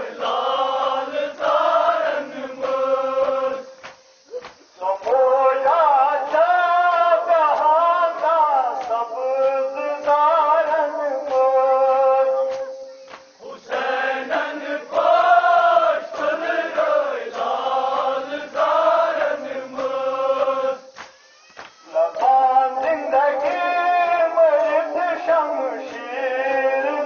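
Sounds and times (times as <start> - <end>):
voices chanting a lament: 0.0 - 27.0.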